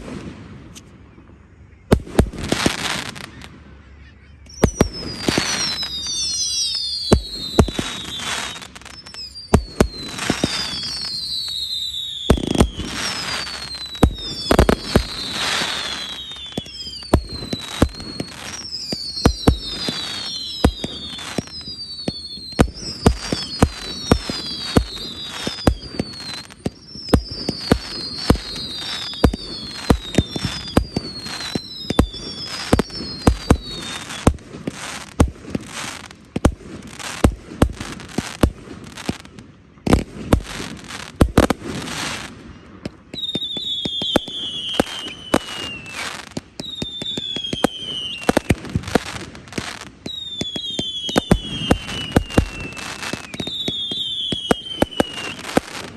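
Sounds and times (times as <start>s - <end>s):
fireworks bursting: 0.0s - 55.9s
firework whistles falling: 1.9s - 3.6s, 4.4s - 55.9s.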